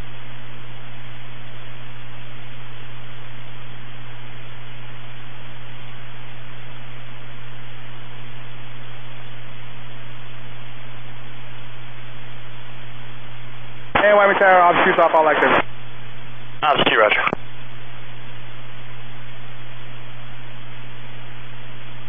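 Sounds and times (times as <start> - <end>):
low hum: 0.0 - 22.0
radio static hiss: 0.0 - 22.0.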